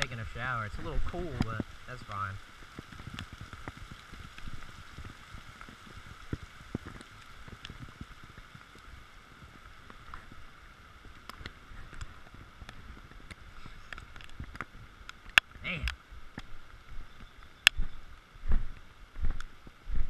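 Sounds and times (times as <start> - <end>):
heavy rain on a pond: 0.0 - 20.0
raindrops tapping on camera: 0.0 - 20.0.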